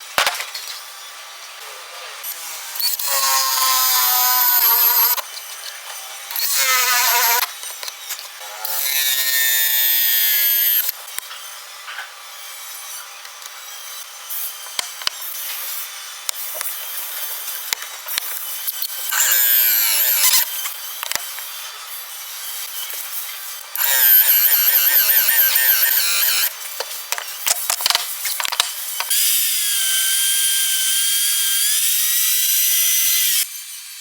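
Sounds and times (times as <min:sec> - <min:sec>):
power tool whining on wood: 0:02.2 - 0:34.0.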